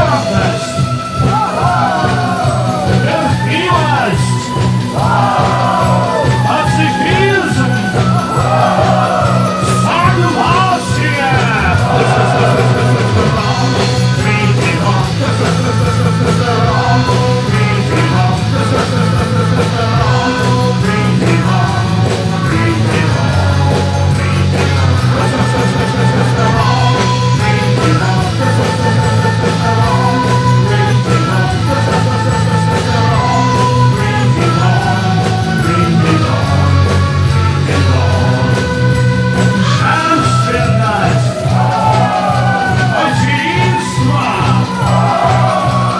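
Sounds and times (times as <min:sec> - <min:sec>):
bass guitar: 0:00.0 - 0:45.9
drums: 0:00.0 - 0:45.9
electric guitar: 0:00.0 - 0:45.9
keyboard: 0:00.0 - 0:45.9
man singing: 0:00.0 - 0:45.9.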